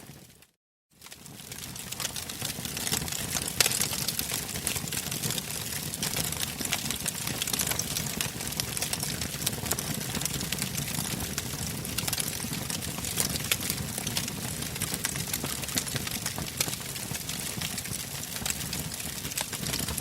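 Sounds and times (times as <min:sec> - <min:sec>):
fire crackling and popping: 0:01.0 - 0:20.0
fire flames rumbling: 0:01.2 - 0:20.0.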